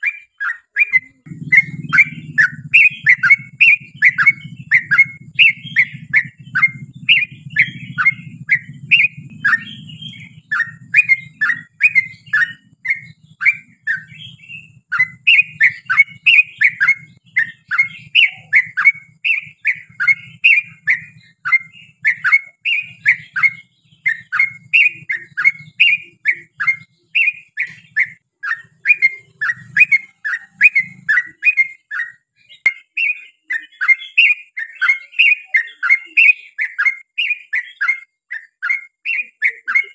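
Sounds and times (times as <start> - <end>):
bulbul singing rapid whistled notes: 0.0 - 39.9.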